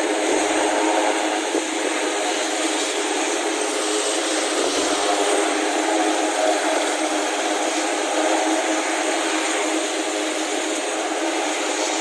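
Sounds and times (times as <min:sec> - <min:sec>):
helicopter turbine and rotor: 0:00.0 - 0:12.0.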